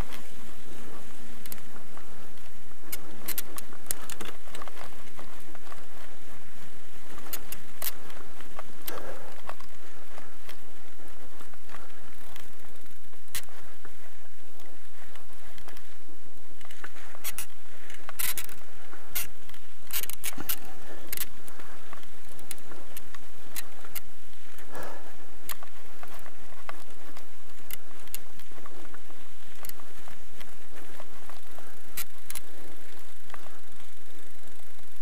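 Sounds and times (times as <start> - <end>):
bicycle tyres on sand and gravel: 0.0 - 35.0
bike clicks and rattles: 0.0 - 35.0.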